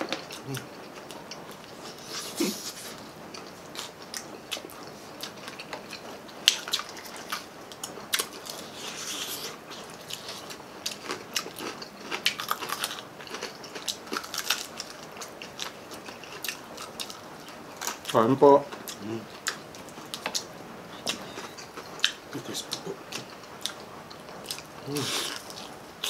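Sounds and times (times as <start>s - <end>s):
wet chewing: 0.0s - 18.1s, 18.7s - 25.8s.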